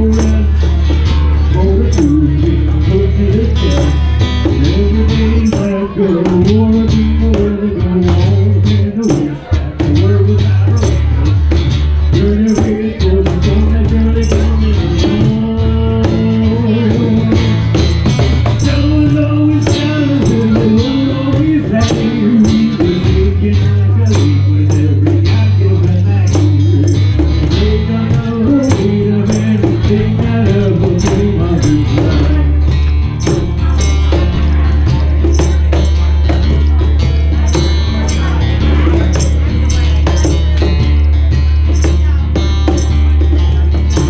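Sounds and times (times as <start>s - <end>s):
cajon beat: 0.0s - 44.0s
live acoustic band music: 0.0s - 44.0s.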